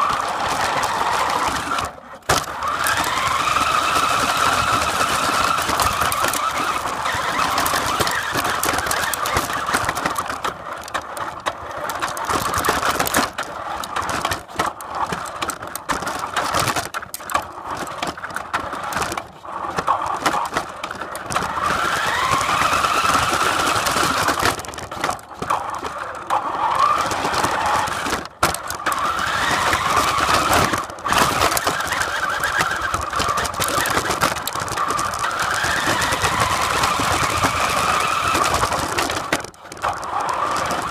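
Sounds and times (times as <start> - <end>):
engine whine: 0.0 - 40.9.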